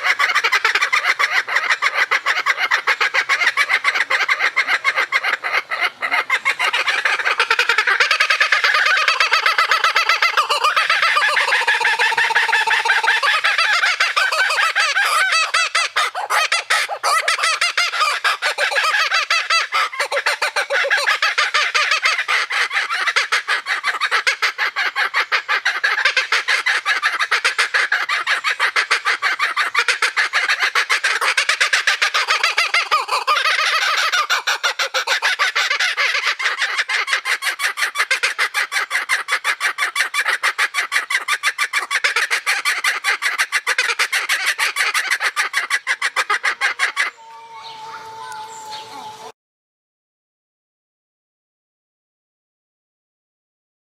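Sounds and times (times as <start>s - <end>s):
kookaburras cackling: 0.0s - 49.3s.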